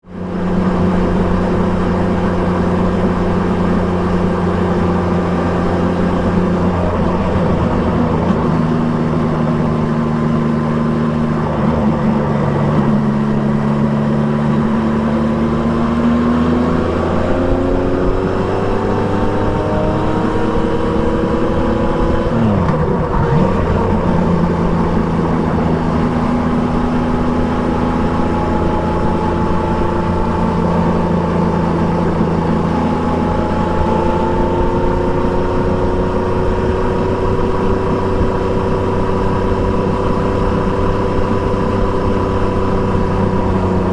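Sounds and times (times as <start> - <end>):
motorcycle engine running: 0.1 - 43.9.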